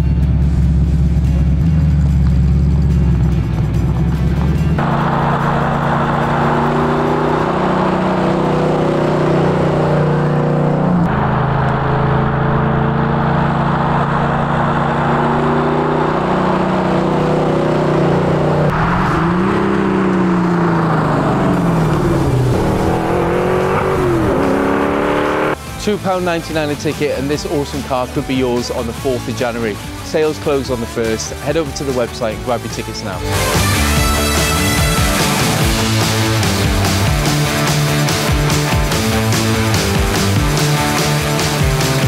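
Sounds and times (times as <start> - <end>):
race car engine accelerating: 0.0 - 42.0.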